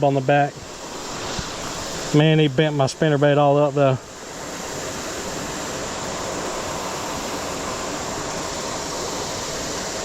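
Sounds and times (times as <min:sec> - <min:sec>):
creek water rushing: 0:00.0 - 0:10.0.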